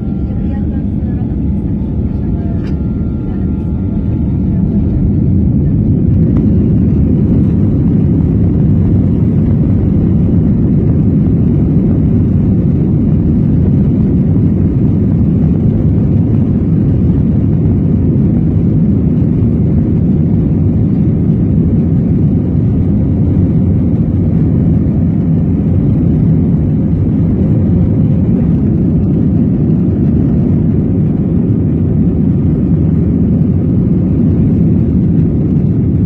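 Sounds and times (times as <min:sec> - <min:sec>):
jet engine rumble in cabin: 0:00.0 - 0:36.0.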